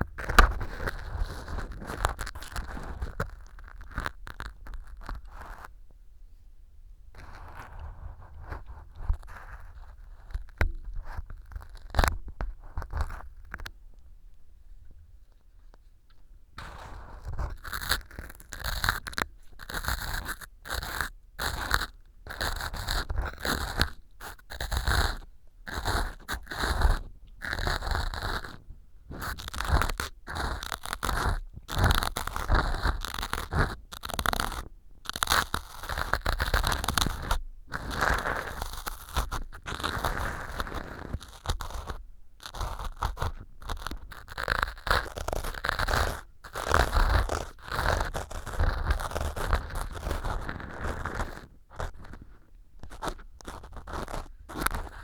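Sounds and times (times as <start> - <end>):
ear pick scraping floral foam: 0.0 - 5.7, 16.6 - 55.0.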